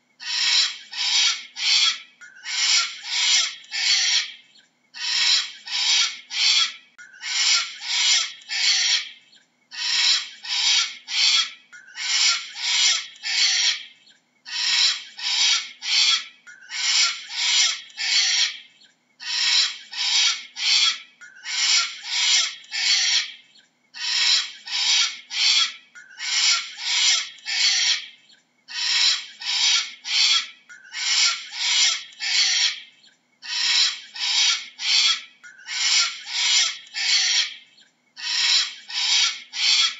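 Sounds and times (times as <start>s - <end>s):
cockatoo screeching: 0.2s - 4.4s, 5.0s - 13.9s, 14.5s - 23.4s, 24.0s - 37.6s, 38.2s - 39.9s.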